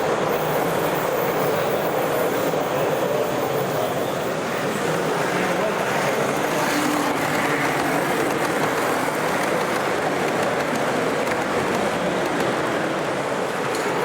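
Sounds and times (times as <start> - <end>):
model train running: 0.0 - 14.0
murmur of exhibition crowd: 0.0 - 14.0.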